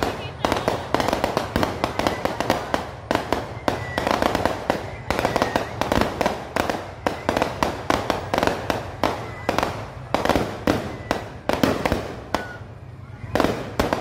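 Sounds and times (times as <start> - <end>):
firecrackers banging and crackling: 0.0 - 14.0.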